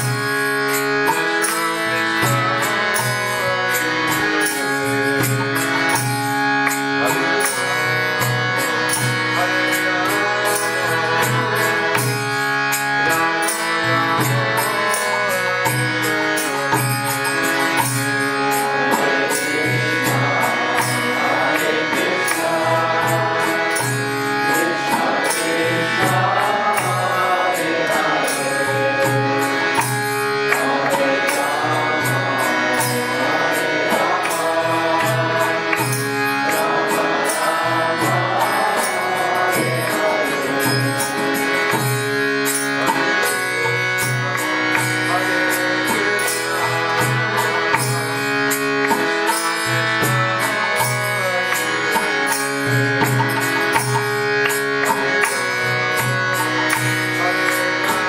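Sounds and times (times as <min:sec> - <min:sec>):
held instrumental chords: 0:00.0 - 0:58.0
man singing a chant: 0:00.0 - 0:58.0.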